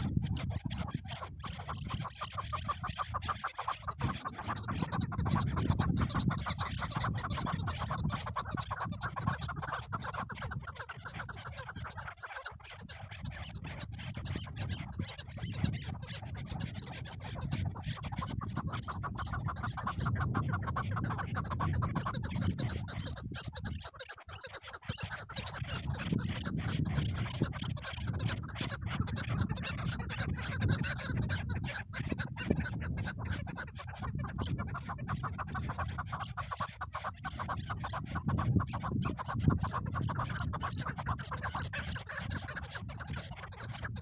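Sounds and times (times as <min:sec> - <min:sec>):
partridges chattering calls: 0:00.0 - 0:44.0.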